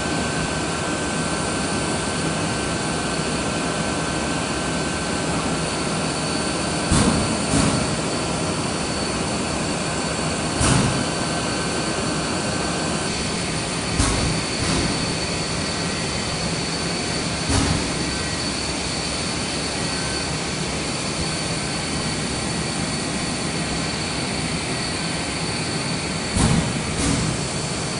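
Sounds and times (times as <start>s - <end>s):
faint high whine: 0.0s - 26.4s.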